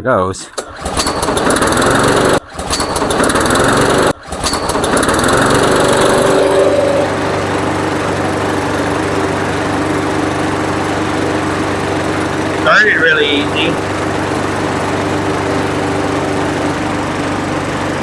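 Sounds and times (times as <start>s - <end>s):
lawn mower engine running: 0.6s - 18.0s.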